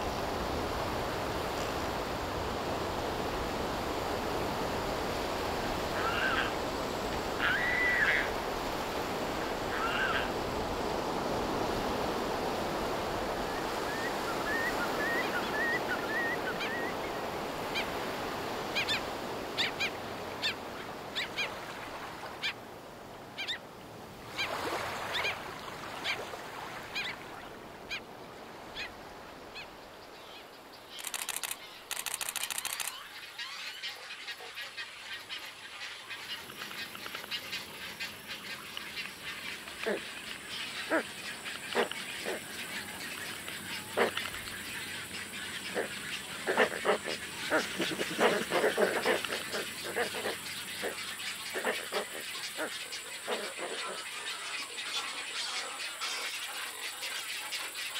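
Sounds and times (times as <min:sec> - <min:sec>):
surf washing: 0:00.0 - 0:29.8, 0:34.8 - 0:57.9
seabirds calling: 0:05.2 - 0:10.6, 0:13.2 - 0:22.6, 0:23.4 - 0:23.6, 0:24.3 - 0:57.9.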